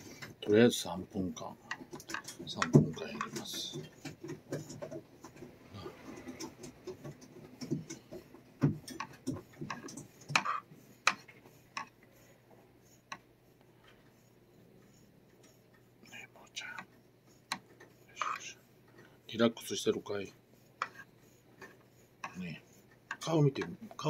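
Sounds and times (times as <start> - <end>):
brush scratching fur: 0.0 - 5.6, 6.2 - 24.0.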